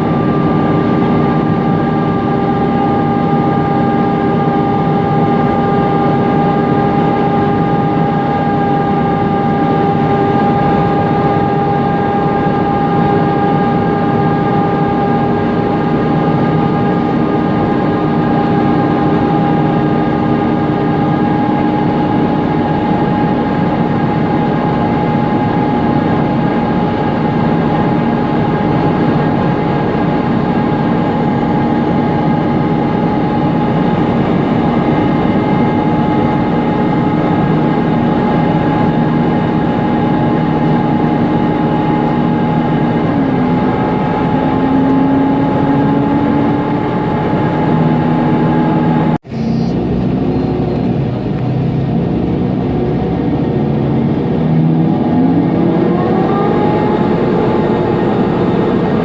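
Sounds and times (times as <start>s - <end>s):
bus engine rumble: 0.0s - 59.0s
engine cooling fan whine: 0.0s - 59.0s
road noise: 0.0s - 59.0s.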